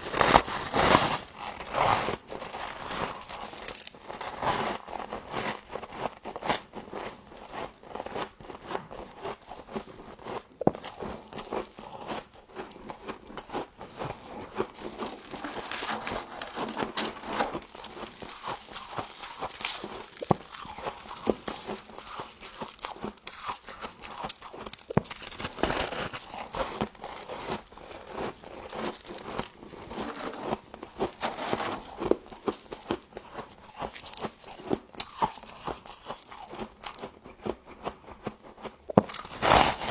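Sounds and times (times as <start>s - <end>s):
person chewing crunchy frost: 7.1s - 39.9s.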